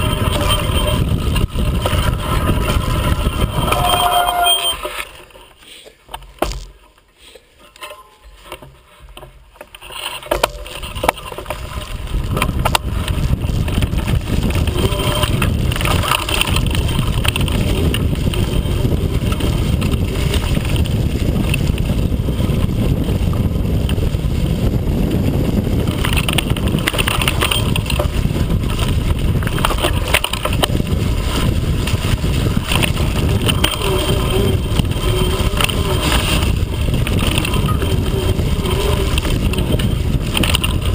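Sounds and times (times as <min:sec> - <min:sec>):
off-road bike rumbling and rattling: 0:00.0 - 0:40.9.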